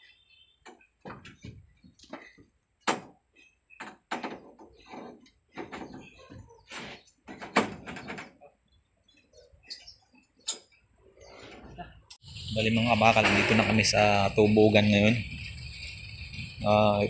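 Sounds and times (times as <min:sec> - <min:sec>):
steel truss knocking and scraping: 0:00.6 - 0:08.5, 0:09.8 - 0:17.0.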